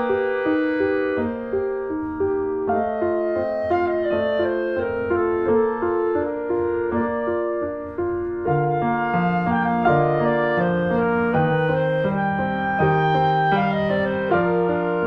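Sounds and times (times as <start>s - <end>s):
held low woodwind notes: 0.0s - 15.0s
piano tune: 0.0s - 15.0s.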